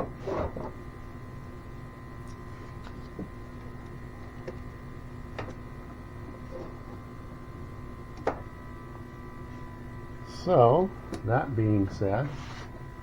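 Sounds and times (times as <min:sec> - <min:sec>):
smoke machine humming: 0:00.0 - 0:13.0.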